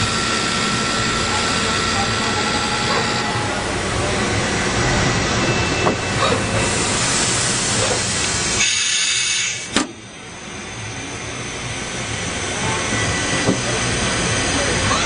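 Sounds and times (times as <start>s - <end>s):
lathe machine running: 0.0s - 15.0s.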